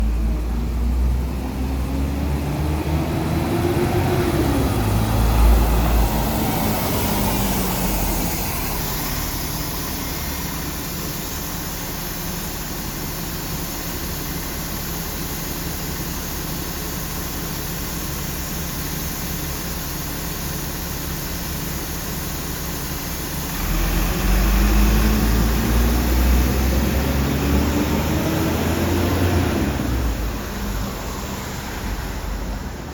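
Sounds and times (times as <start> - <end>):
bus engine whining and rumbling: 0.0 - 32.9.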